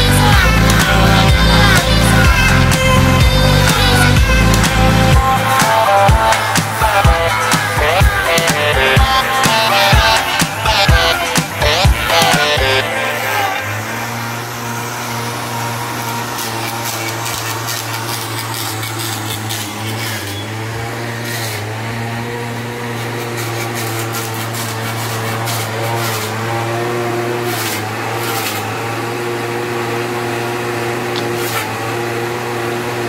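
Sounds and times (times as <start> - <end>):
machine motor humming: 0.0 - 33.0.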